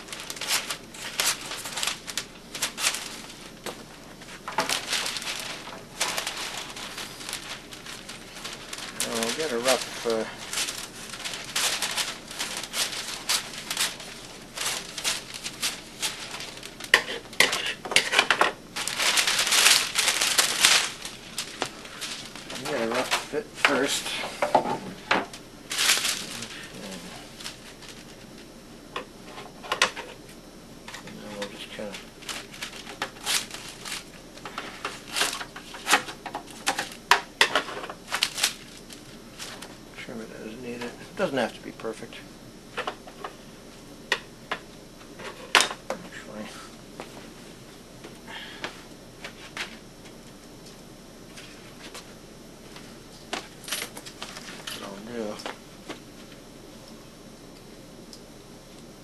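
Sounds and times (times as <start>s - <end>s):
thin sheet crinkling: 0.0s - 42.1s, 49.2s - 56.4s.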